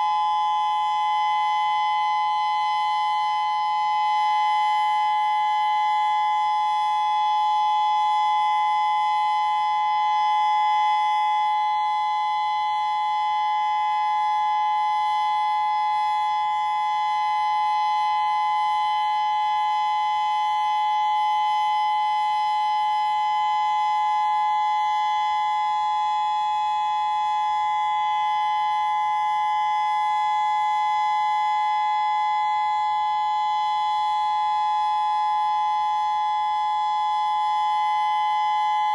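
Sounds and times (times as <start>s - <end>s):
warning siren dual-tone chord: 0.0s - 38.9s.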